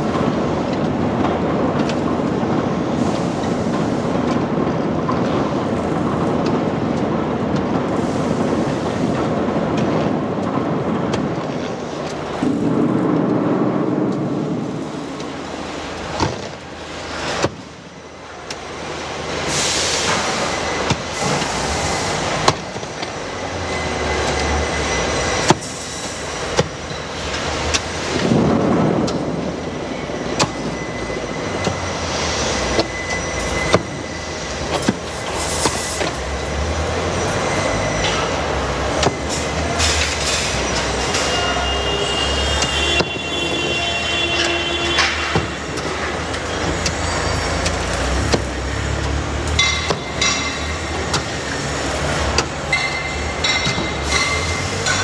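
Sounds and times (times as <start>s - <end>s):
machinery humming: 0.0s - 55.0s.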